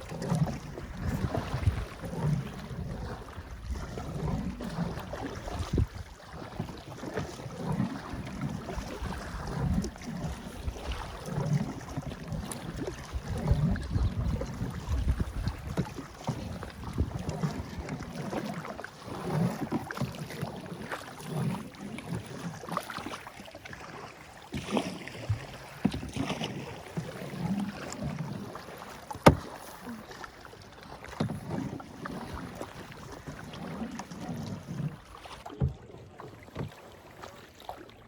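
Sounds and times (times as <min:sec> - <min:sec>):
paddle strokes splashing water: 0:00.0 - 0:38.0.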